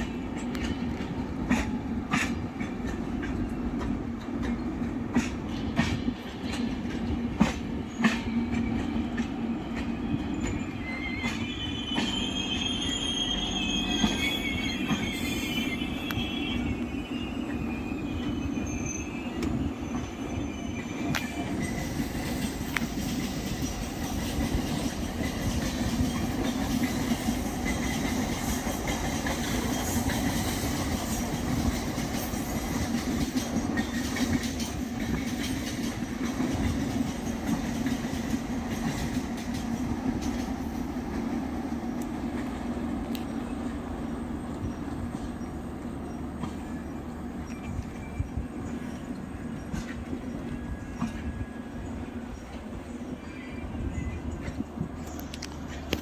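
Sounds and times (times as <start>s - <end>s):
train wheels squealing: 0.0s - 42.0s, 43.3s - 56.0s
train coaches rumbling on track: 0.0s - 56.0s.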